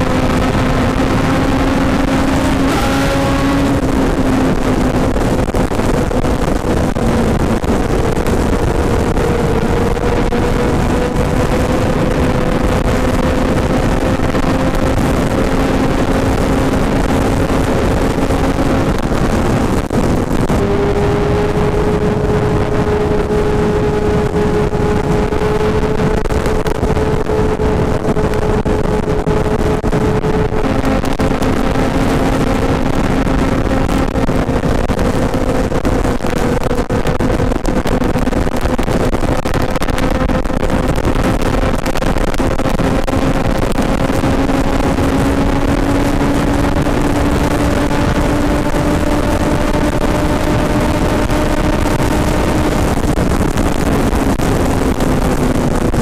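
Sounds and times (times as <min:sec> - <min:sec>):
motorcycle engine hum: 0:00.0 - 0:56.0
wind and road rush: 0:00.0 - 0:56.0.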